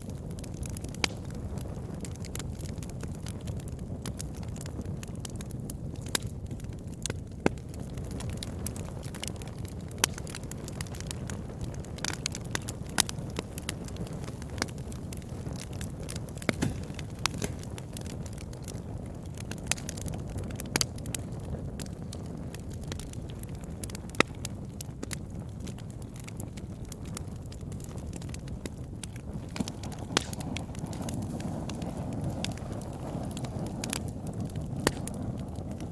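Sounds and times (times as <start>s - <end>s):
burning wood crackling: 0.0s - 35.9s
low rumble of flames: 0.0s - 35.9s.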